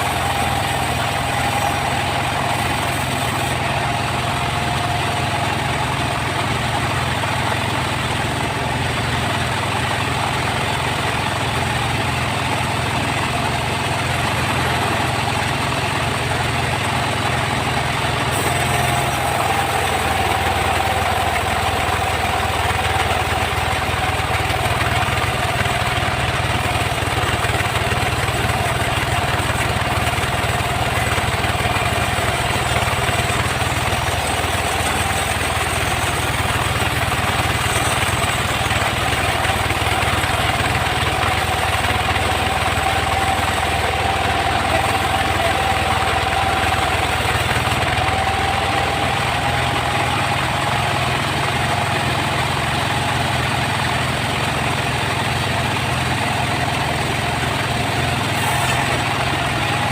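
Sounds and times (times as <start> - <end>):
low engine hum: 0.0 - 59.9
saw whine: 0.0 - 59.9
sawmill saw running: 0.0 - 59.9.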